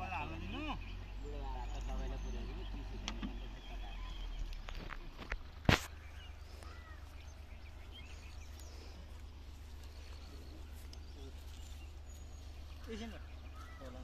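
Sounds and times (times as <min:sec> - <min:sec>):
steady low rumble: 0:00.0 - 0:13.6
faint bird chirps: 0:00.0 - 0:14.0.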